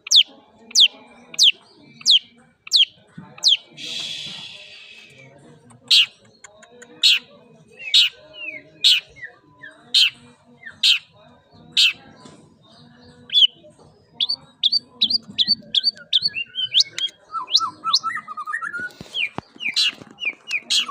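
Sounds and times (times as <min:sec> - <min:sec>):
shrike singing: 0:00.0 - 0:20.9.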